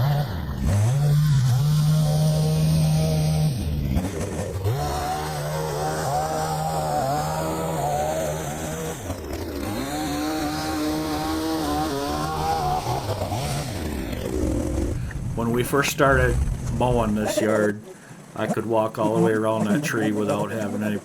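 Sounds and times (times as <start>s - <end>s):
pole saw engine running: 0.0s - 21.0s.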